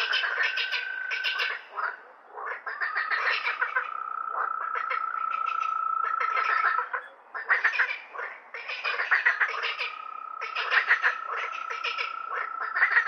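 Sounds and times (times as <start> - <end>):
frogs croaking in chorus: 0.0 - 13.0.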